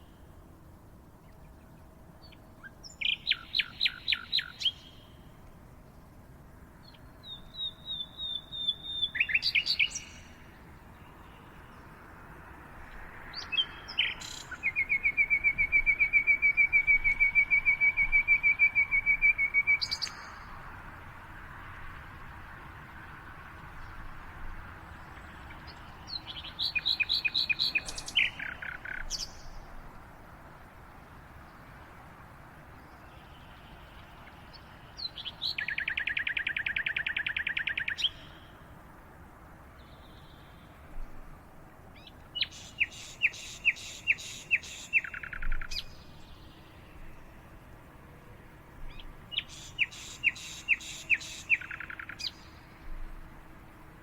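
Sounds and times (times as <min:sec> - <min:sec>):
faint steady background noise: 0:00.0 - 0:54.0
songbird singing: 0:00.0 - 0:54.0.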